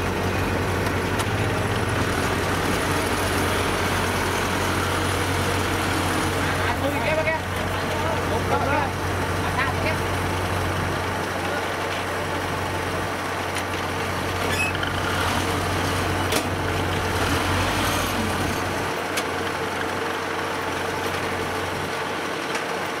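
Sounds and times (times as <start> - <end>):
heavy machinery engine running: 0.0 - 23.0.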